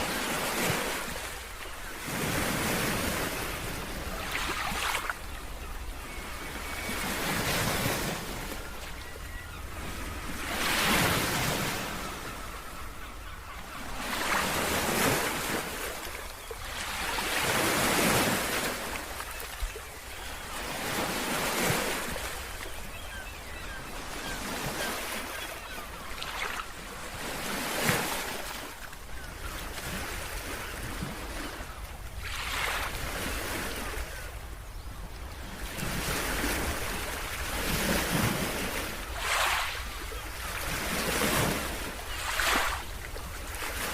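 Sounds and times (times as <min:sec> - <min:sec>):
sea waves breaking on beach: 0:00.0 - 0:12.6, 0:13.9 - 0:34.4, 0:35.5 - 0:43.9.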